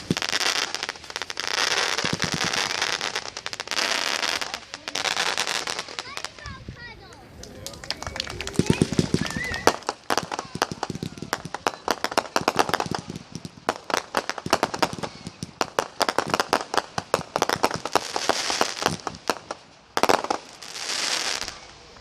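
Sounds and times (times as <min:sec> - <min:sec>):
fireworks crackling hiss: 0:00.0 - 0:22.0
fireworks popping and banging: 0:00.0 - 0:22.0.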